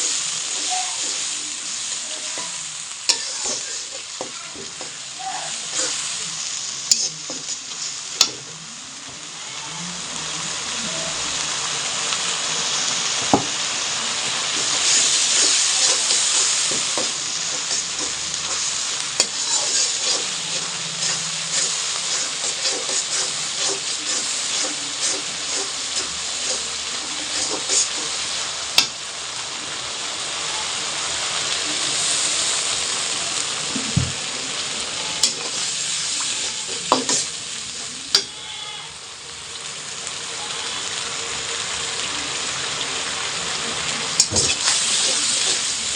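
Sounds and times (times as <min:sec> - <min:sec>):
food sizzling in hot oil: 0:00.0 - 0:45.9.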